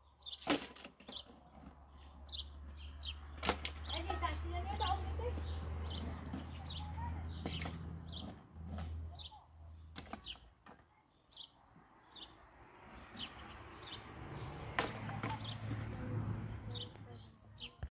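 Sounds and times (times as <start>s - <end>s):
bird chirping: 0.0s - 15.8s.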